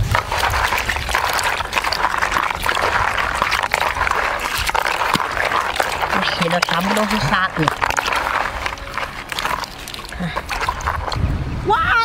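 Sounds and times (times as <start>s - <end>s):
water sloshing: 0.0s - 11.6s.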